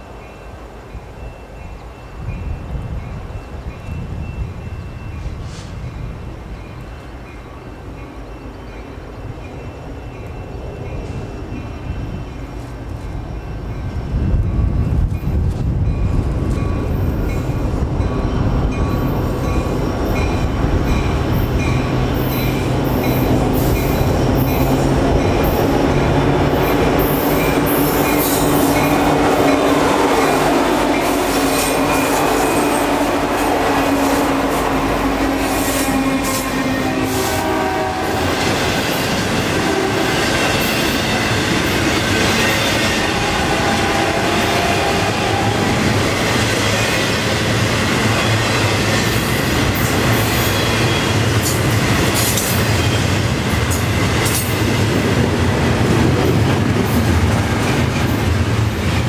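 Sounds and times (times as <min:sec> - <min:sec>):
diesel locomotives passing: 0:00.0 - 0:59.0
steel wheels rumbling on rails: 0:01.8 - 0:59.0.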